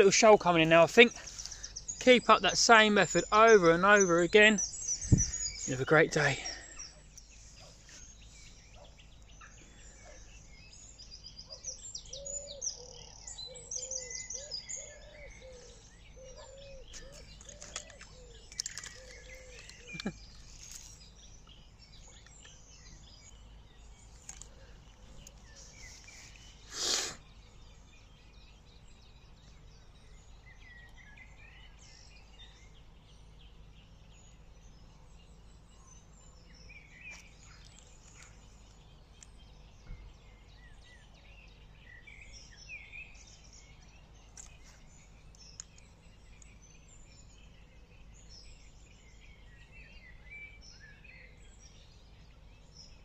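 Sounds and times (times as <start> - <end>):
faint outdoor background: 0.0 - 53.0
songbirds chirping: 0.0 - 53.0.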